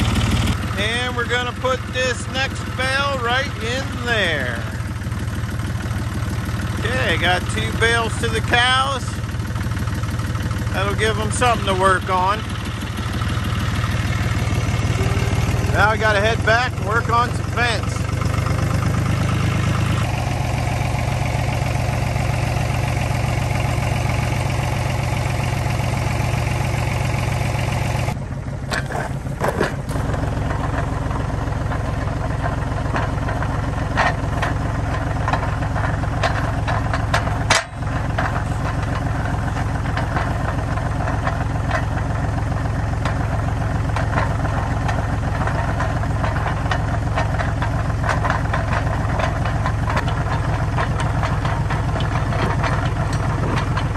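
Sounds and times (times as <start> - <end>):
tractor engine running: 0.0 - 53.9
knocks and rattles: 0.1 - 21.0, 28.6 - 53.9.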